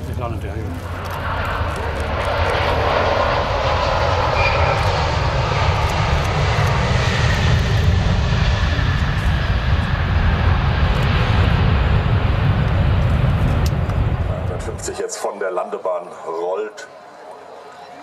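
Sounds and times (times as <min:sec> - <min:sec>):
jet airliner landing roar: 0:00.0 - 0:18.0.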